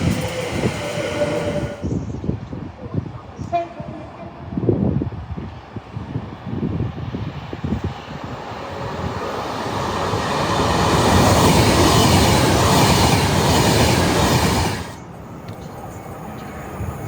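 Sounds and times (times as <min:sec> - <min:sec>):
train passing with rumbling wheels: 0:00.0 - 0:17.0.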